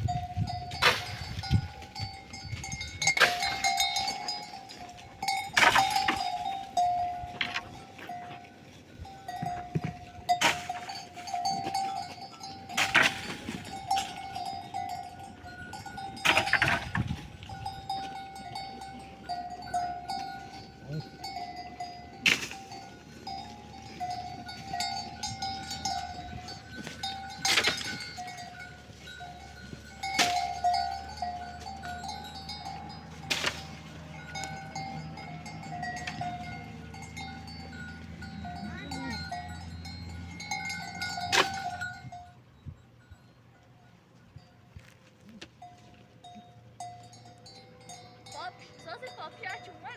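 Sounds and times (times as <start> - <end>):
livestock bells clinking: 0.0 - 49.9.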